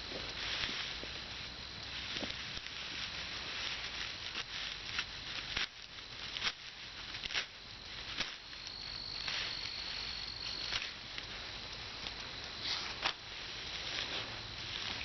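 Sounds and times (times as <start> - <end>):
crickets chirring: 0.0 - 15.0
dry brush and twigs crackling: 0.0 - 15.0.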